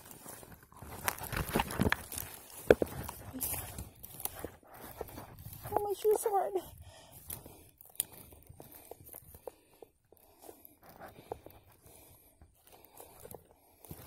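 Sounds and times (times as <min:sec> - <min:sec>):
footsteps crunching on forest floor: 0:00.0 - 0:14.0.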